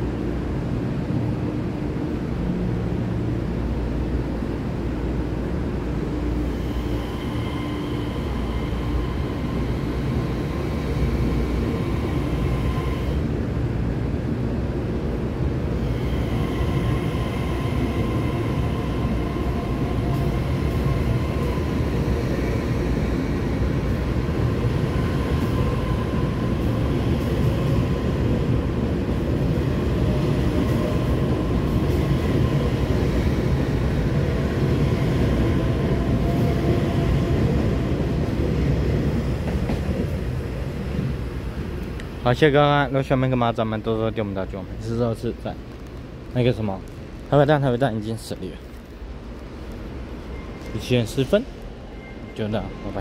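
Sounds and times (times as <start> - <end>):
faint train whine: 0.0 - 53.0
train wheels rumbling on rail: 0.0 - 53.0.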